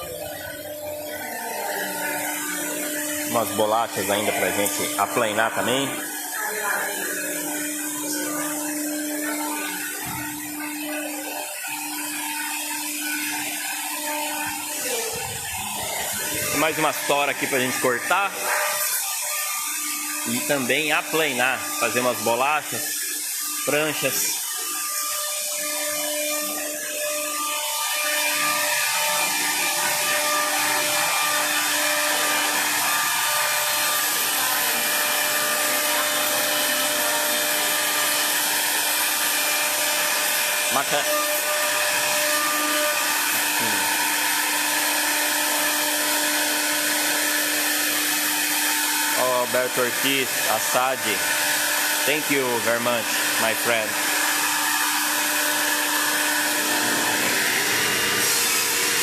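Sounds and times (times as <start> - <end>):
woodworking machinery running: 0.0 - 59.0.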